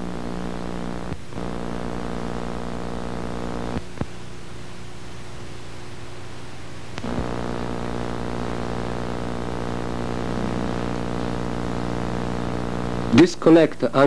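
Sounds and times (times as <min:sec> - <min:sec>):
loud pulsing hum: 0:00.0 - 0:05.2, 0:06.9 - 0:13.2
low hiss and hum: 0:00.0 - 0:14.0.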